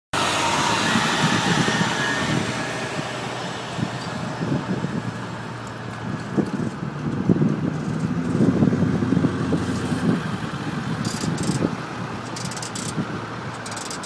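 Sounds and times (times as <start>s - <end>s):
vehicle passing: 0.2s - 14.0s.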